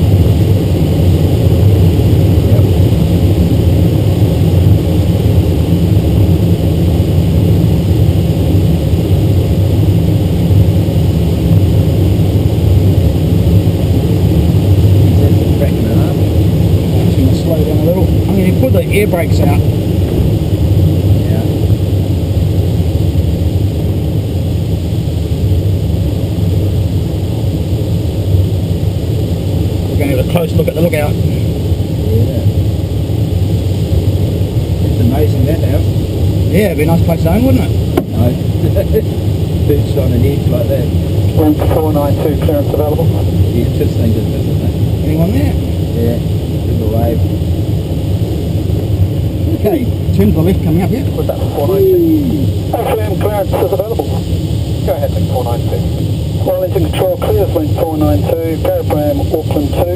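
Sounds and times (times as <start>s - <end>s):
airflow rushing over glider: 0.0s - 59.9s.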